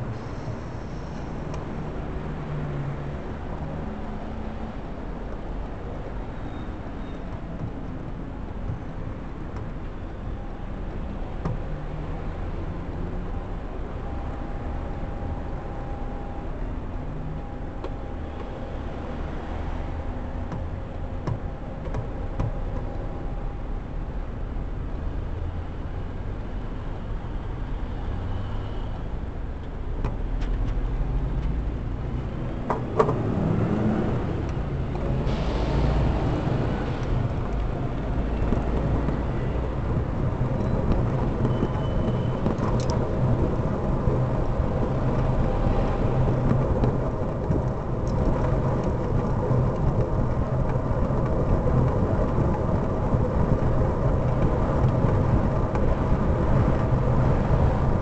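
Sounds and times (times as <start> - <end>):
city traffic rumble: 0.0 - 58.0.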